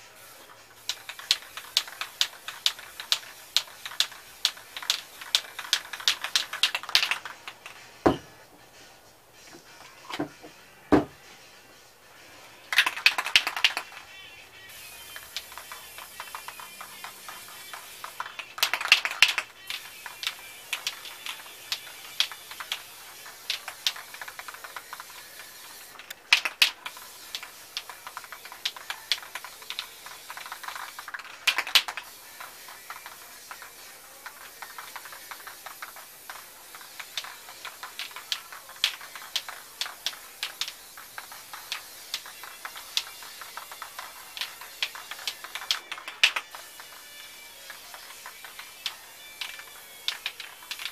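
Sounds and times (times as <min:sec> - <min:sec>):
spray paint can hissing: 0:00.0 - 0:08.4, 0:12.2 - 0:50.9
sharp clicks: 0:00.8 - 0:07.8, 0:12.7 - 0:14.0, 0:14.7 - 0:50.9.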